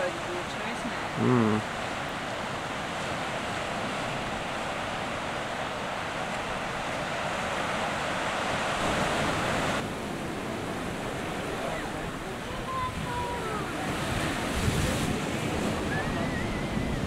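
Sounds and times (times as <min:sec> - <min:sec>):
sea surf washing over rocks: 0:00.0 - 0:17.0.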